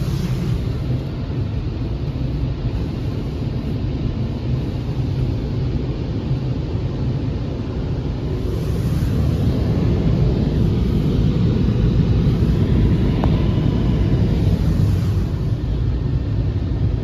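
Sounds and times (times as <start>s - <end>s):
car wash brushes rumbling: 0.0s - 17.0s.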